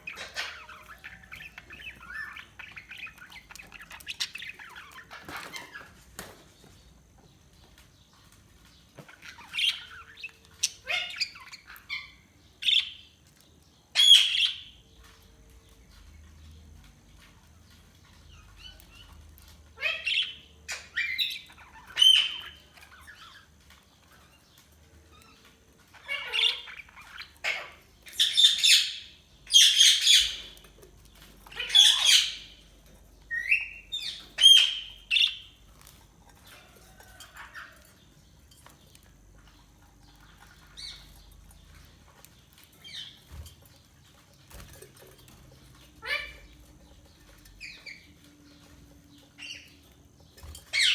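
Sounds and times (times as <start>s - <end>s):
budgerigars chirping and squawking: 0.0s - 15.3s, 17.1s - 50.9s.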